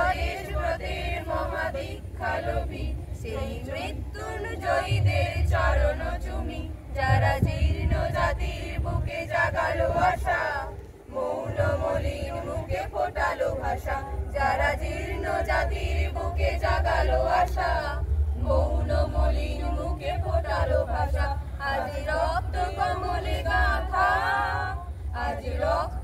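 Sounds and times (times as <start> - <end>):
girls singing unaccompanied: 0.0 - 26.0.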